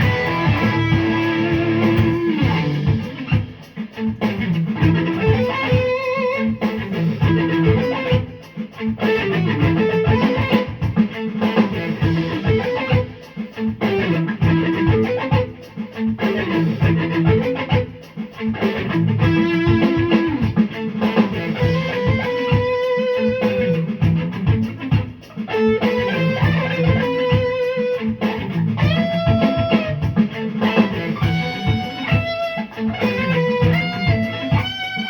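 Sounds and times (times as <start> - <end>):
guitar music: 0.0 - 35.0.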